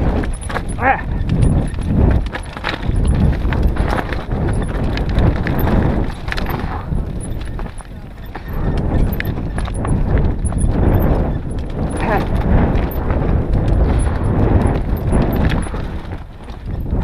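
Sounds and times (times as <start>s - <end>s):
mountain bike rumbling on trail: 0.0s - 17.0s.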